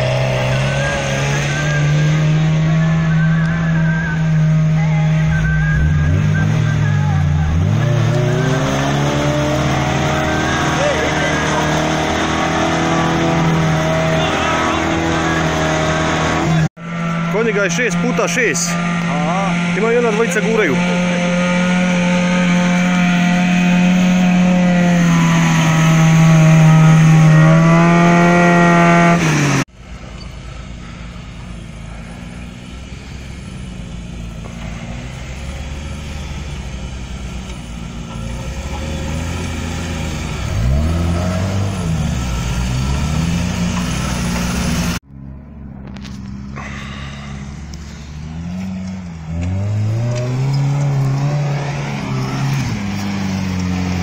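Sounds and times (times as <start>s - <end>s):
engine revving loudly: 0.0s - 29.7s, 31.9s - 45.0s, 46.6s - 54.0s
quieter engine revving: 0.0s - 54.0s.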